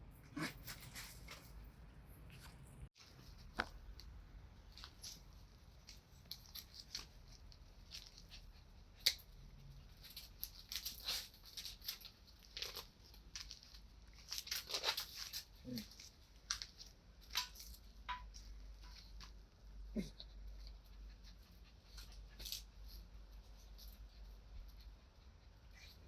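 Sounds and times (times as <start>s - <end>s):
puppies scuffling and chewing: 0.3s - 26.0s.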